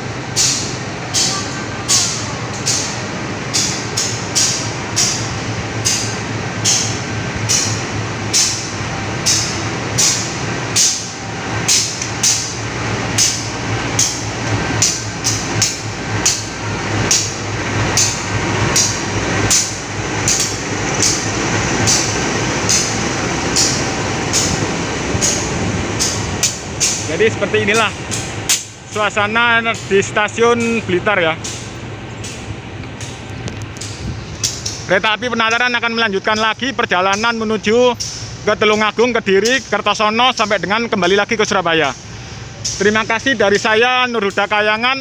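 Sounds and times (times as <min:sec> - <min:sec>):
diesel locomotive idling: 0:00.0 - 0:45.0.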